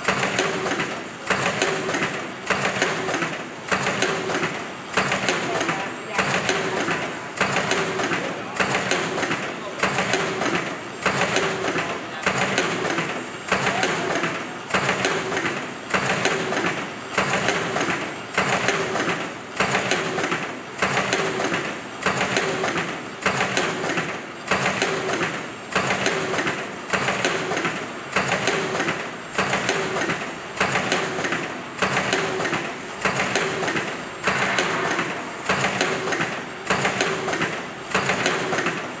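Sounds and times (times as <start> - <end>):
machine rhythmic clatter: 0.0 - 39.0.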